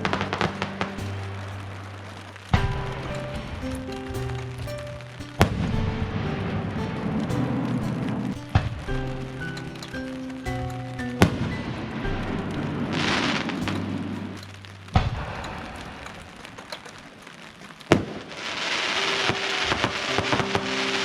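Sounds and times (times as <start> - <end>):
background music with held notes: 0.0 - 16.3, 18.4 - 21.0
crackling fireworks stars: 0.0 - 21.0
fireworks shells bursting: 0.0 - 21.0.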